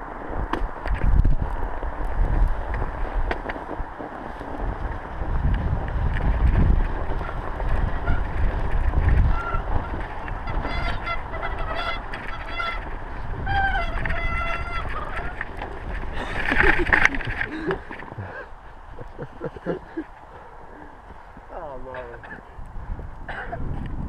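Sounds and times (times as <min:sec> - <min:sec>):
mountain bike rumbling: 0:00.0 - 0:24.0
wind buffeting microphone: 0:00.0 - 0:24.0.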